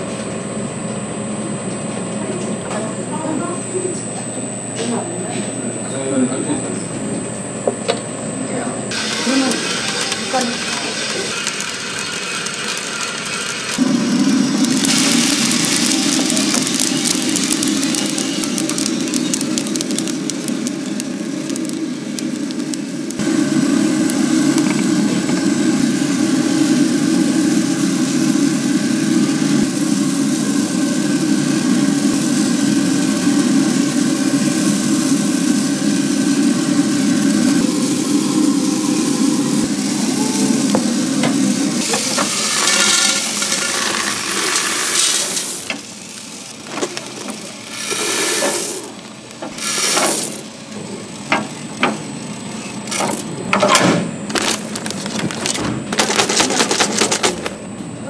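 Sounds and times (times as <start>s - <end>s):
coffee roaster humming: 0.0s - 58.0s.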